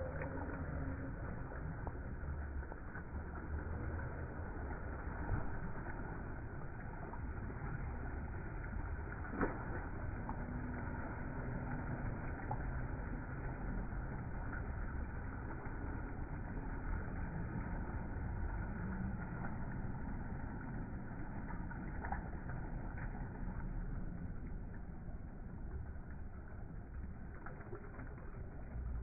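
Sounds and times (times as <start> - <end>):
steady low rumble: 0.0 - 29.0
water splashing in a pool: 0.0 - 29.0.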